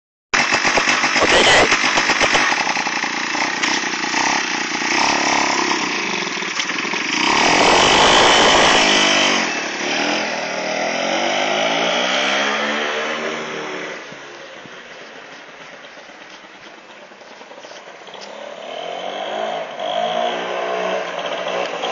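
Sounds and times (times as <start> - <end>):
scooter engine revving: 0.4 - 14.1, 15.7 - 21.9.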